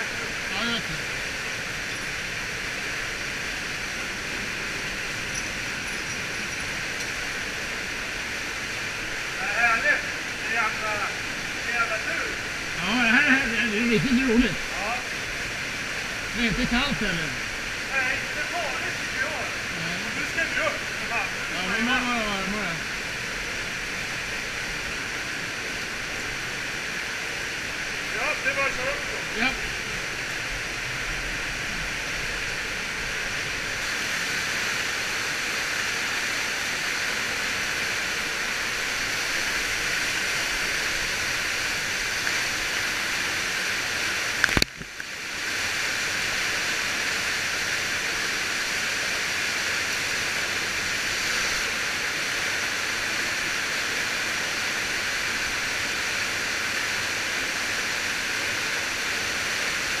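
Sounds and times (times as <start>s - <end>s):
water rushing in cave: 0.0s - 60.0s.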